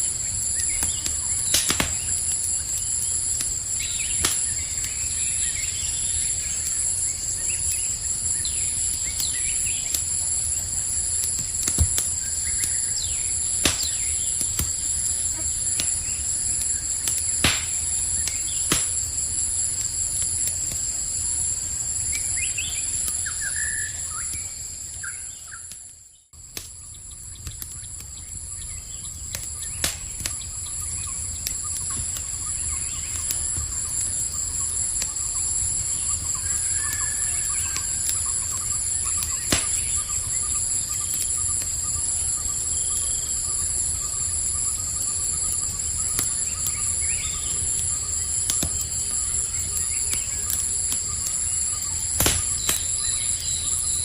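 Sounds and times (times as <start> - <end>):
campfire crackling: 0.0 - 54.0
insect chorus: 0.0 - 54.0.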